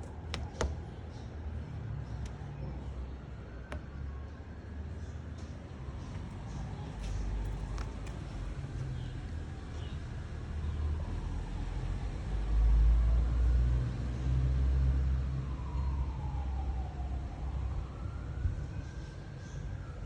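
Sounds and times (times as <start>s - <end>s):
distant siren wailing: 0.0s - 20.0s
road traffic rumble: 0.0s - 20.0s.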